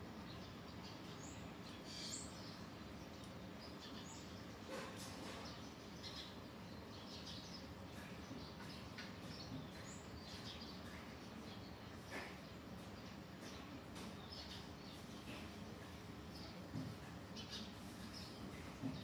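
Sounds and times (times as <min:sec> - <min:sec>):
faint background noise: 0:00.0 - 0:19.0
small birds chirping: 0:00.0 - 0:19.0.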